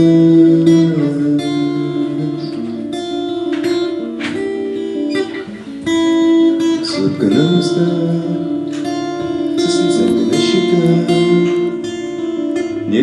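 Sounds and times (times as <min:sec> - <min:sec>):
guitar playing chords: 0:00.0 - 0:13.0.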